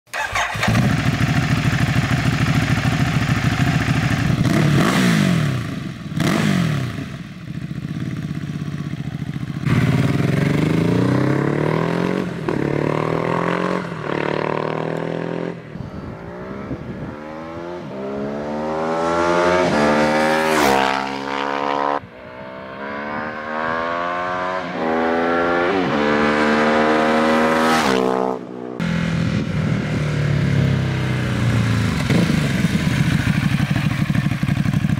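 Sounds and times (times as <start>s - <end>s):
motorcycle engine revving and accelerating: 0.2s - 34.9s.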